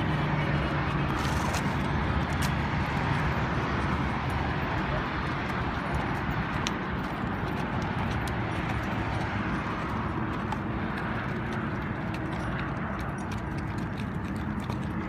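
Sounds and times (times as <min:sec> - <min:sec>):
horse hooves clip-clopping on dirt: 0:00.0 - 0:15.0.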